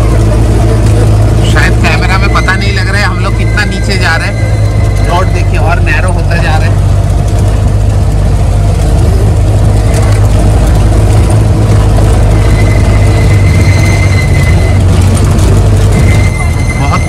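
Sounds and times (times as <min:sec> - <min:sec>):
jeep engine running: 0:00.0 - 0:17.0.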